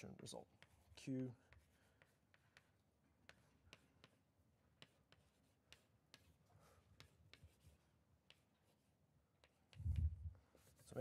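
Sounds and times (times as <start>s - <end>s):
chalk tapping and scratching: 0.0s - 11.0s.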